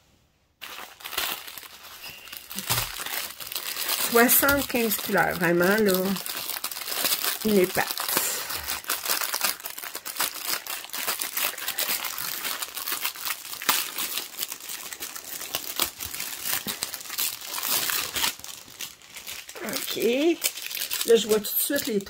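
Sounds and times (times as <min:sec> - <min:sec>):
plastic crinkling: 0:00.6 - 0:22.0.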